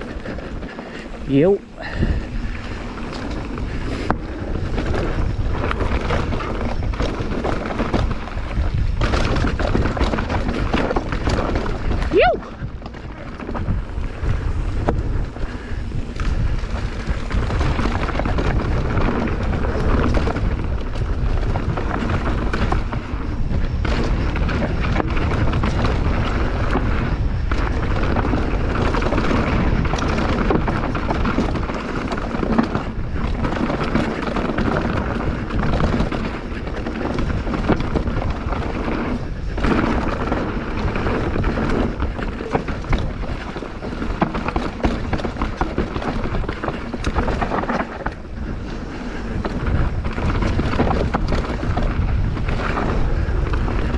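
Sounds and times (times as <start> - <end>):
mountain bike tyre and frame rumble: 0.0 - 53.9
wind buffeting microphone: 0.0 - 53.9.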